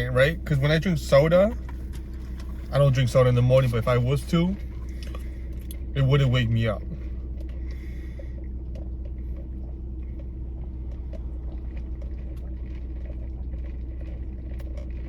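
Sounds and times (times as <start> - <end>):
low rumble of car cabin: 0.0 - 15.0.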